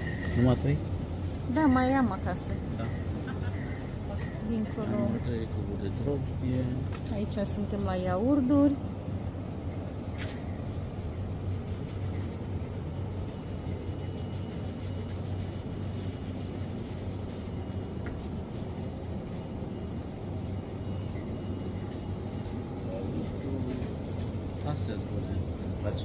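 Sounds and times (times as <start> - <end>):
low hum and rumble: 0.0 - 26.0.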